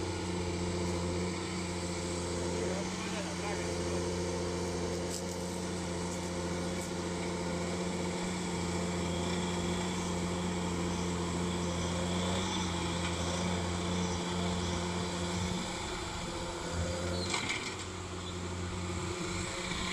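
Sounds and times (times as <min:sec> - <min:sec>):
tractor diesel engine under load: 0:00.0 - 0:19.9.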